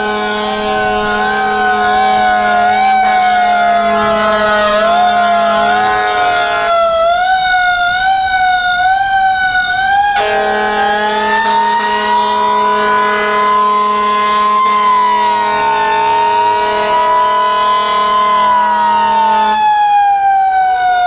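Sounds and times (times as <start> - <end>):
fire truck siren wailing: 0.0 - 21.0
steady lower siren tone: 0.0 - 21.0.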